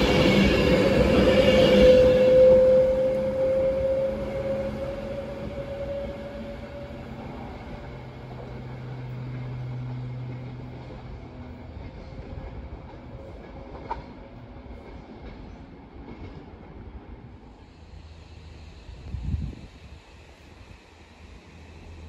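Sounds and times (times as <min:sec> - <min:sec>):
train running with steady hum: 0:00.0 - 0:22.0.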